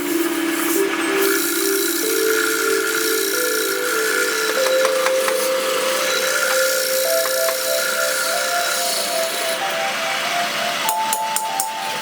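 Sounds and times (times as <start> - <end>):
music of held notes: 0.0 - 12.0.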